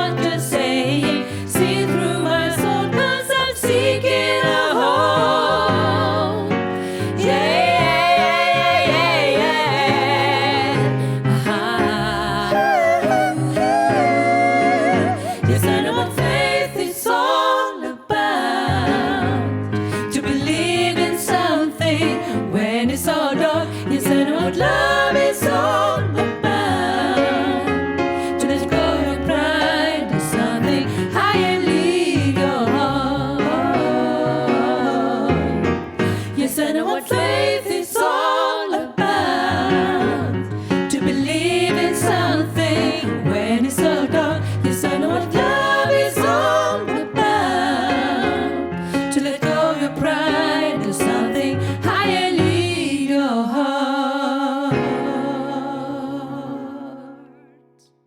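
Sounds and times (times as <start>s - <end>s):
women singing in harmony: 0.0s - 57.6s.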